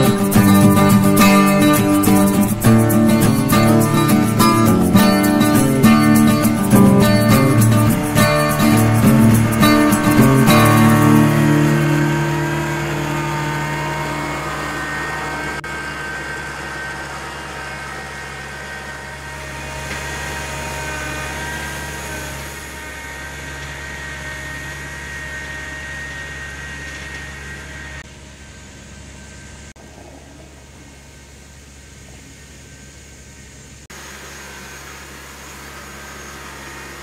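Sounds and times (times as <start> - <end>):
motor humming and whining: 0.0 - 37.0.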